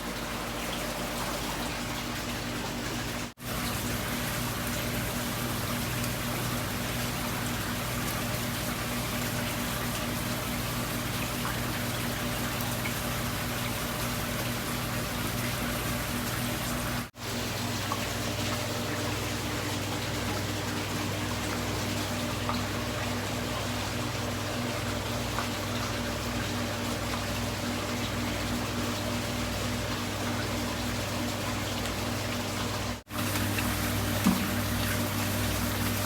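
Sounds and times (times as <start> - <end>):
running water: 0.0 - 36.0.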